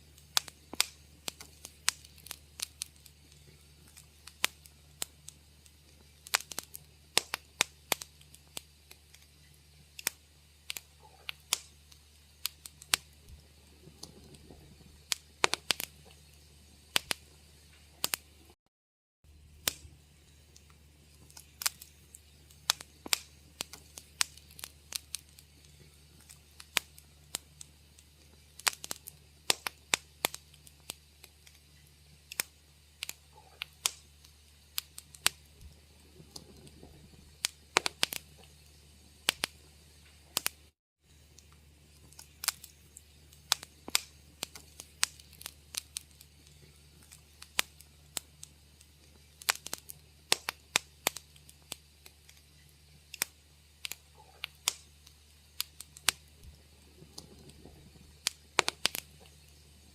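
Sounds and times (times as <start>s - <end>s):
faint low hum: 0.0s - 18.6s, 19.3s - 59.9s
wood fire crackling: 0.0s - 18.6s, 19.3s - 59.9s.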